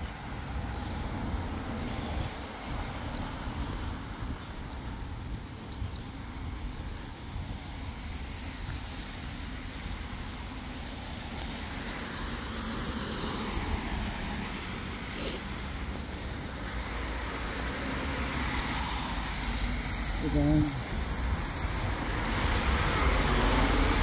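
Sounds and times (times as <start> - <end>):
tyres hissing on wet road: 0.0 - 4.3, 7.6 - 24.0.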